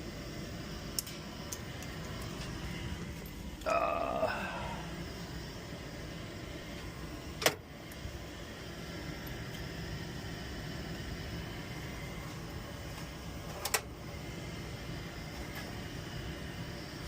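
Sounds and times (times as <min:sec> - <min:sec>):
furnace motor hum: 0:00.0 - 0:17.0.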